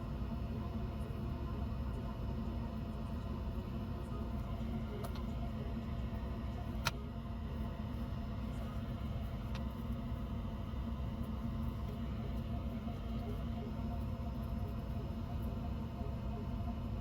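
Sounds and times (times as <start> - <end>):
low hum with rumble: 0.0 - 17.0.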